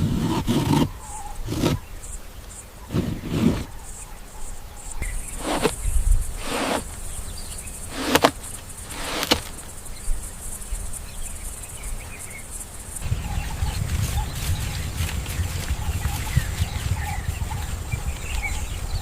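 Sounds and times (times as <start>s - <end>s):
high insect hum: 0.0s - 19.0s.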